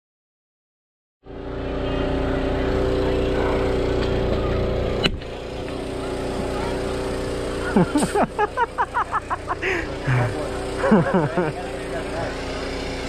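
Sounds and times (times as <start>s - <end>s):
motor-like drone: 1.2s - 13.0s.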